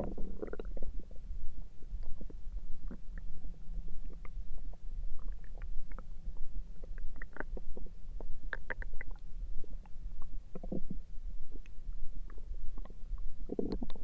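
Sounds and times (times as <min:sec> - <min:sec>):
stomach gurgling: 0:00.0 - 0:14.0.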